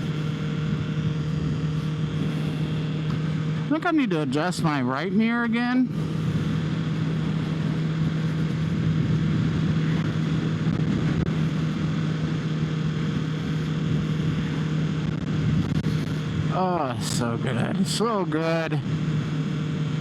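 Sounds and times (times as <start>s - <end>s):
wind rush on microphone: 0.0s - 3.8s, 4.6s - 17.4s
motorcycle engine running: 0.0s - 20.0s.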